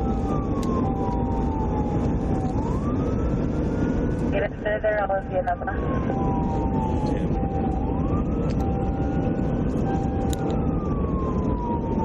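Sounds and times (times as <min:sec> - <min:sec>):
police siren wailing: 0:00.0 - 0:12.0
road and engine rumble: 0:00.0 - 0:12.0.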